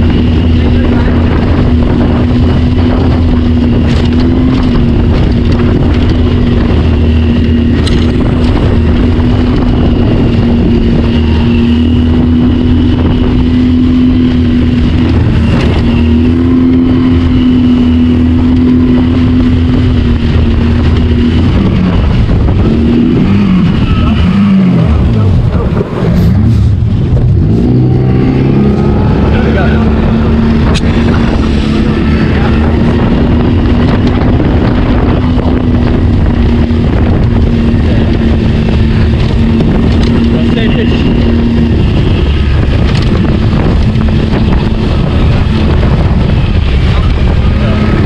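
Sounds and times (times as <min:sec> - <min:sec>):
outboard motor running: 0:00.0 - 0:48.0.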